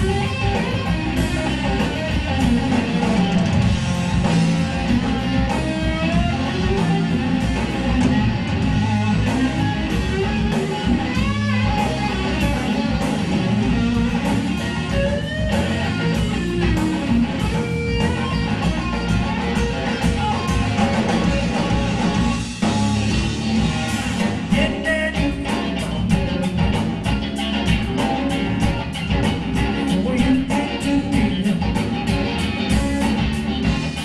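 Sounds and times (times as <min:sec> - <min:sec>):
bass guitar: 0:00.0 - 0:34.0
drum kit: 0:00.0 - 0:34.0
electric guitar lead lines: 0:00.0 - 0:34.0.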